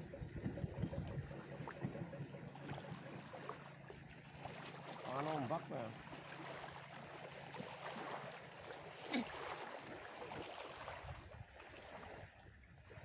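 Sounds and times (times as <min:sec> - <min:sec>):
small waves washing on river: 0:00.0 - 0:13.0.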